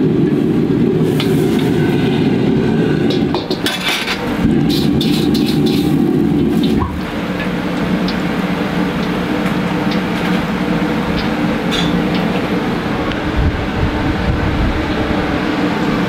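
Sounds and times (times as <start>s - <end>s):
gas burner rumbling: 0.0s - 16.0s.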